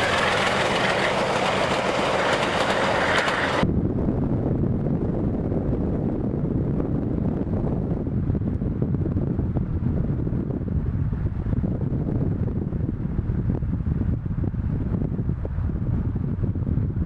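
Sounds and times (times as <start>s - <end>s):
car road and wind rumble: 0.0s - 17.0s
wind buffeting microphone: 0.0s - 17.0s.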